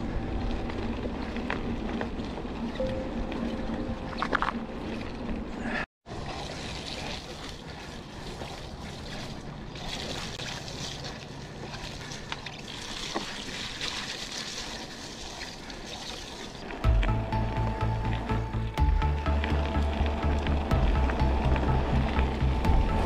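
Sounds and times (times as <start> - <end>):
bike rattling: 0.0 - 5.7, 6.5 - 23.0
bike tyres rushing through mud: 4.2 - 23.0.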